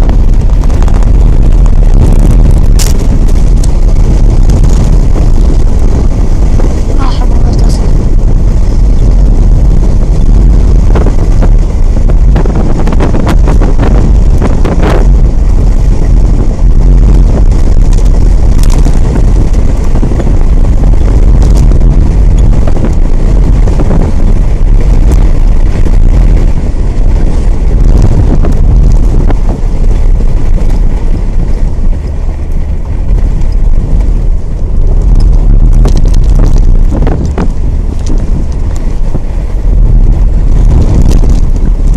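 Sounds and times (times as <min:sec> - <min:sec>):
boat engine low rumble: 0:00.0 - 0:41.9
wind buffeting microphone: 0:00.0 - 0:41.9.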